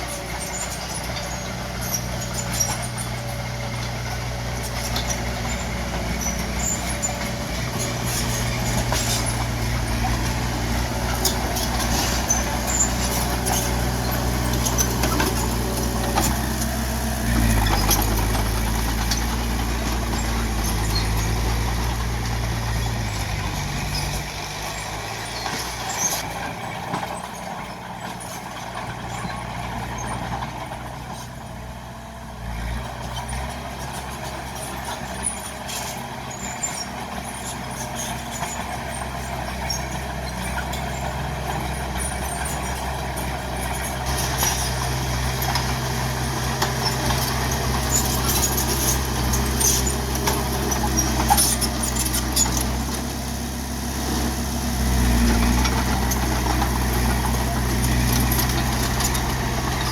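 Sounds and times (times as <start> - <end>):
bulldozer diesel engine revving: 0.0 - 59.9.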